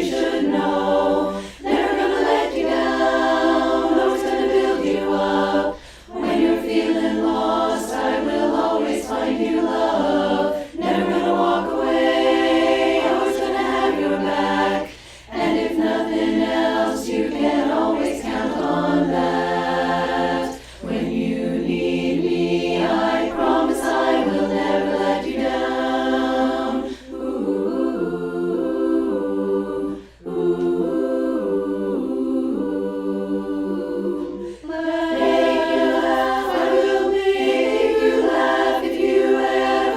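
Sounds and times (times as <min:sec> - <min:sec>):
chorus singing unaccompanied: 0:00.0 - 0:39.9.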